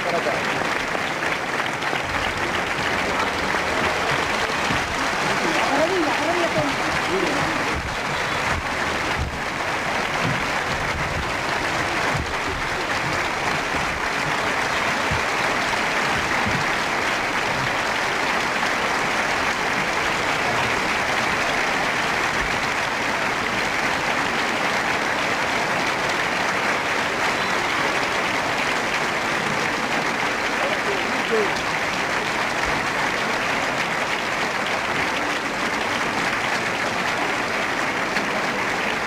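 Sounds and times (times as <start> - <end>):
large audience applauding: 0.0 - 39.0.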